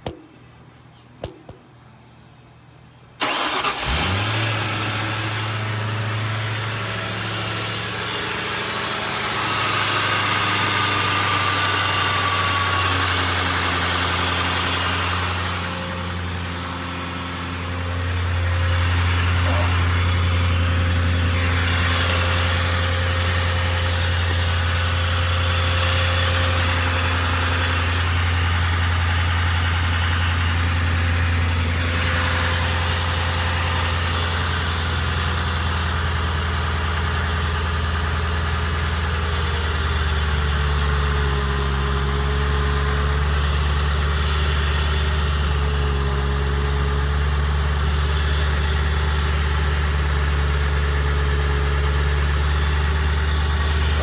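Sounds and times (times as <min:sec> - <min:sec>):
car engine idling: 0:03.2 - 0:54.0.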